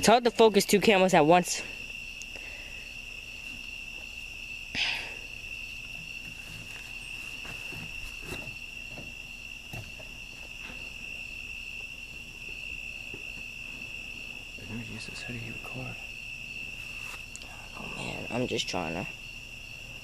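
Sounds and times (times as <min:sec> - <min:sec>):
night insects trilling: 0:00.0 - 0:20.0.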